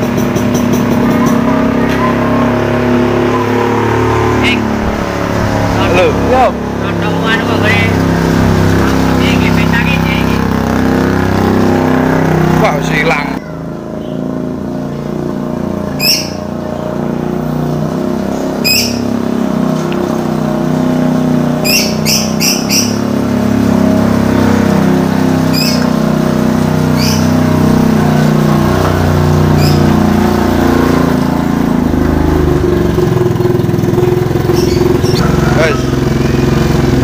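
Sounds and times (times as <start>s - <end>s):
scooter engine humming: 0.0s - 37.0s.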